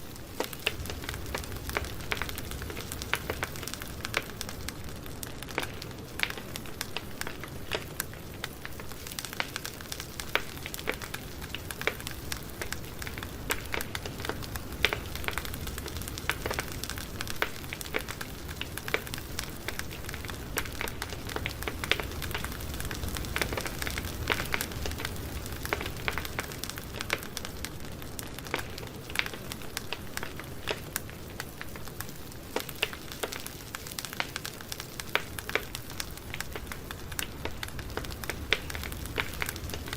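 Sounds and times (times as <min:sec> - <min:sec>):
campfire crackling and popping: 0:00.0 - 0:39.9
hiss of flames: 0:00.0 - 0:39.9.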